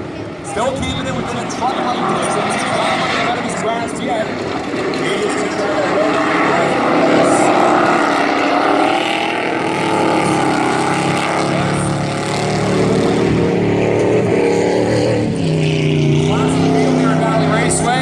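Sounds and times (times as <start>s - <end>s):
race truck engines running hard: 0.0s - 18.0s.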